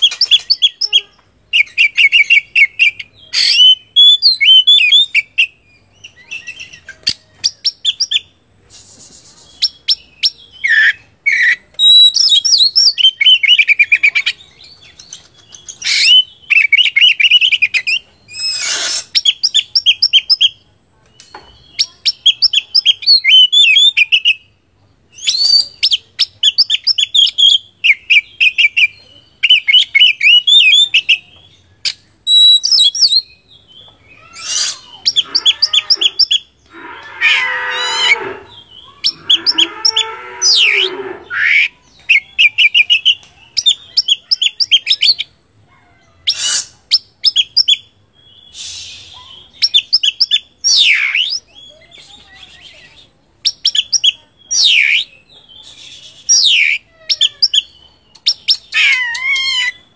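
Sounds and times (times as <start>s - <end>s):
songbird whistled song: 0.0s - 45.4s, 46.0s - 59.9s.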